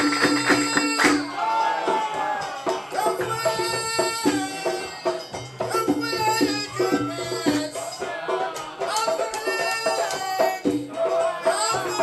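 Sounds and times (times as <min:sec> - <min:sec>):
music with percussion beat: 0:00.0 - 0:12.0.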